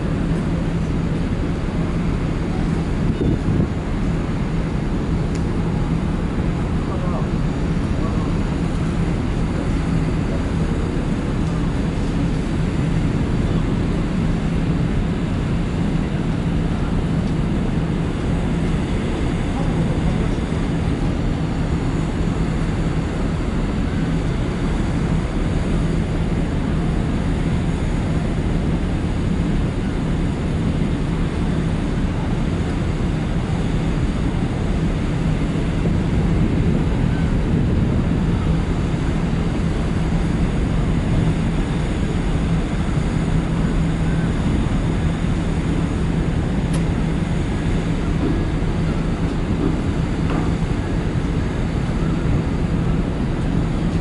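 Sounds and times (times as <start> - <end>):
ship engine drone: 0.0 - 54.0.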